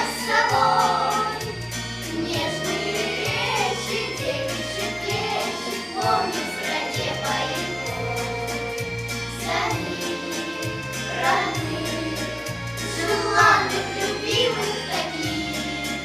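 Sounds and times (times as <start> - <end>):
children singing: 0.0 - 16.0
instrumental backing track: 0.0 - 16.0.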